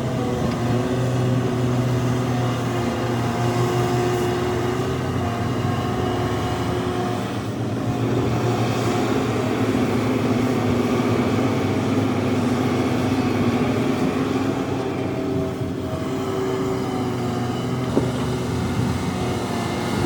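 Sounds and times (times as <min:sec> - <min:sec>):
heavy diesel engines under load: 0:00.0 - 0:20.0.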